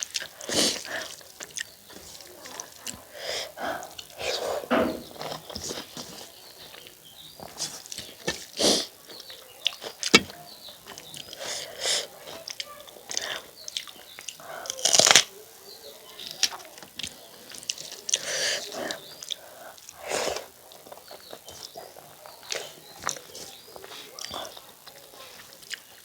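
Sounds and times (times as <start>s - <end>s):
person chewing and smacking lips: 0.0s - 26.0s.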